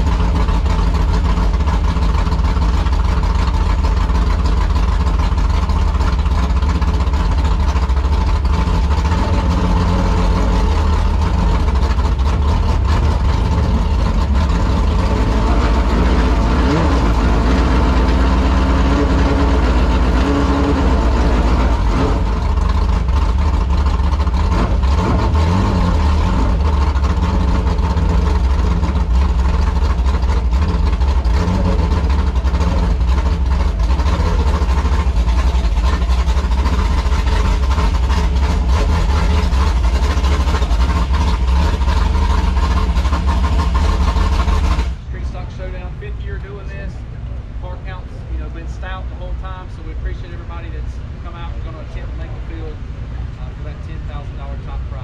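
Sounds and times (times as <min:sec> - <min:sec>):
race car engine idling: 0:00.0 - 0:55.0.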